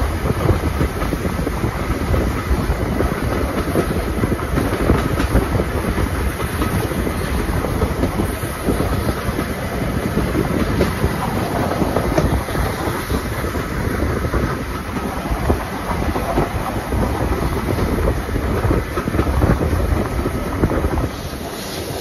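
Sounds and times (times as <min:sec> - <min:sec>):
rumble of moving coaches: 0:00.0 - 0:22.0
train wheels clicking over rail joints: 0:00.0 - 0:22.0.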